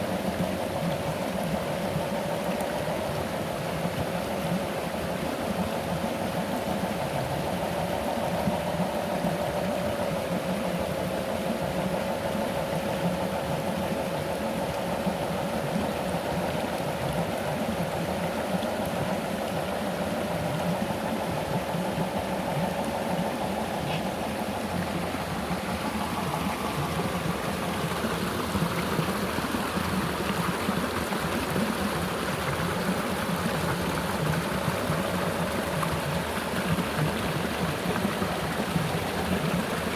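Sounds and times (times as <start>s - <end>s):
flowing river water: 0.0s - 39.9s.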